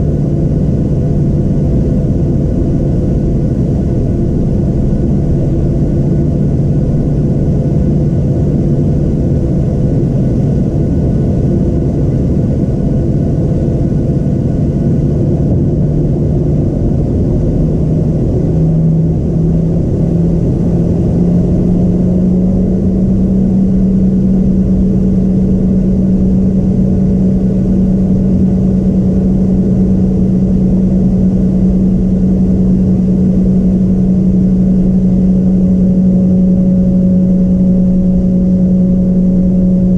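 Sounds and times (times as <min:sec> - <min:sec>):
jet engines droning in cabin: 0:00.0 - 0:39.9.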